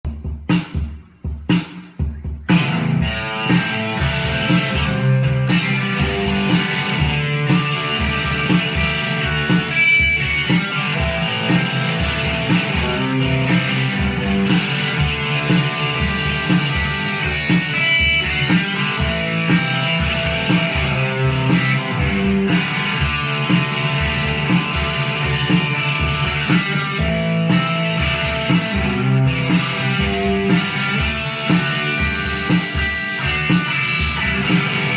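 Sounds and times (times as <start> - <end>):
guitar-led band music: 0.1 - 34.9.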